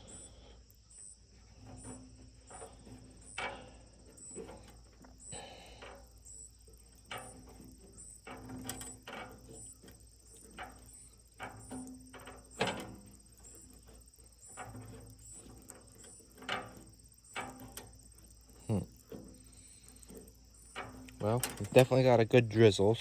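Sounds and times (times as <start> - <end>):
light clicks and knocks: 1.5 - 22.3.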